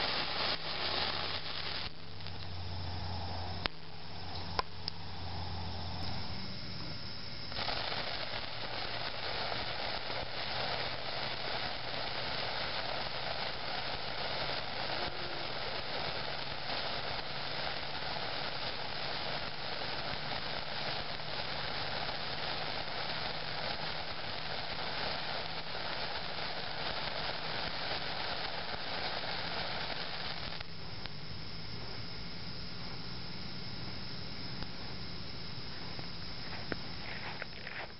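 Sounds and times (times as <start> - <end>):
sparkler fizzing hiss: 0.0 - 37.9.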